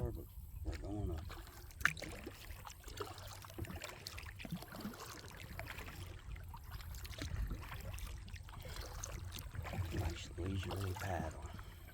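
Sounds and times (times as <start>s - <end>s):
kayak paddle strokes in water: 0.6s - 11.9s
small irregular splashes: 0.6s - 11.9s.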